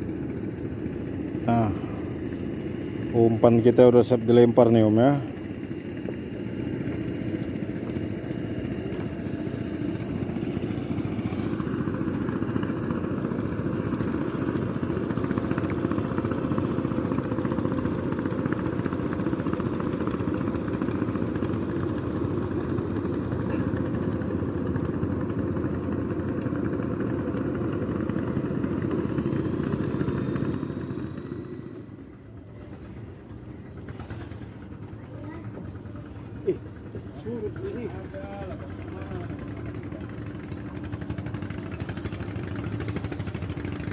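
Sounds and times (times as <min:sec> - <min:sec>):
motor engine running: 0:00.0 - 0:43.9.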